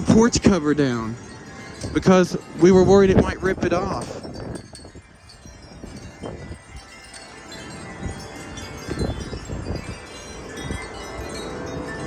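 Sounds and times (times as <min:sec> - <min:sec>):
wind chimes ringing: 0:00.0 - 0:12.0
wind gusts on microphone: 0:00.0 - 0:12.0.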